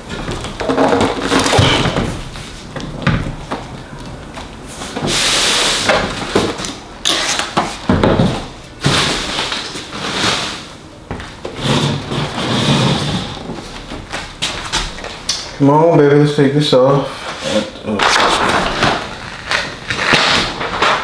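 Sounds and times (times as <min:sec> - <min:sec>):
rubbing and scraping plastic: 0:00.0 - 0:10.8, 0:11.5 - 0:15.0, 0:17.2 - 0:21.0.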